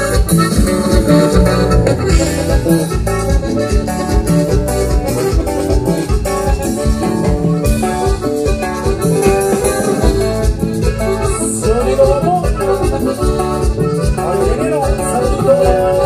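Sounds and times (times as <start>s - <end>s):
latin dance band playing: 0.0s - 16.0s.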